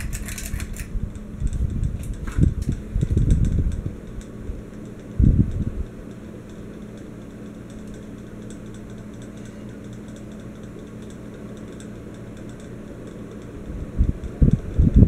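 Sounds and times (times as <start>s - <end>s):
ceiling fan motor humming: 0.0s - 15.0s
faint ticking: 1.1s - 15.0s.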